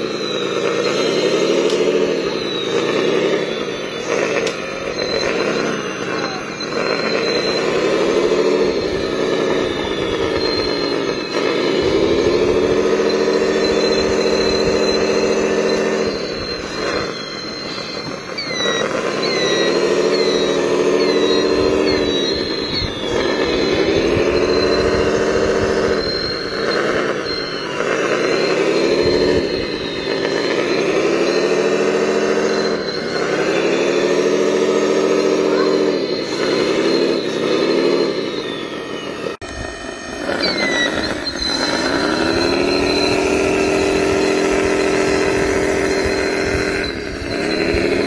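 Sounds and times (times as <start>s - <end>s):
hydraulic model whine: 0.0s - 48.0s.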